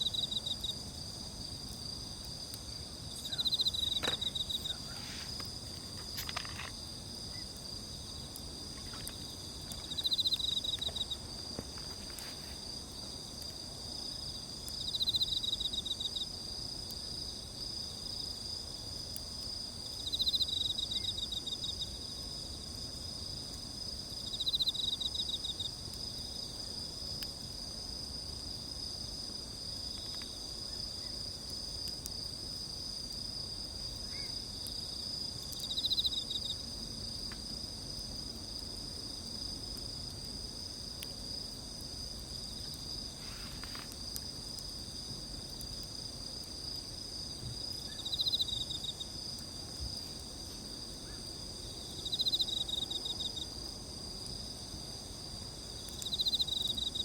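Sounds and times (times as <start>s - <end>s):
loud pulsing insect trill: 0.0s - 11.6s, 12.5s - 27.0s, 27.6s - 57.0s
crickets and insects trilling: 0.0s - 57.0s.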